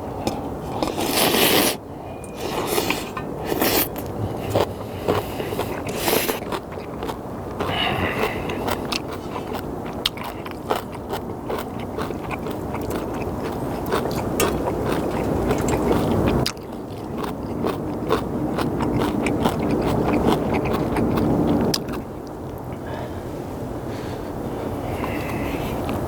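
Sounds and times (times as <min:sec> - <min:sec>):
chewing and slurping noodles: 0:00.3 - 0:22.8.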